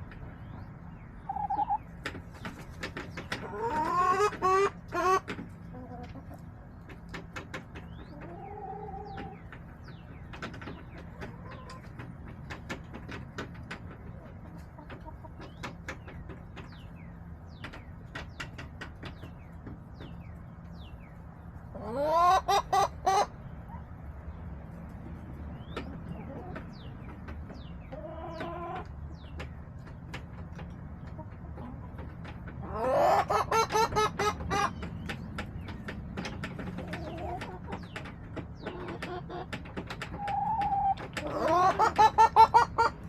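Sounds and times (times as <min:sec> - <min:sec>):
hens clucking: 0:00.0 - 0:43.0.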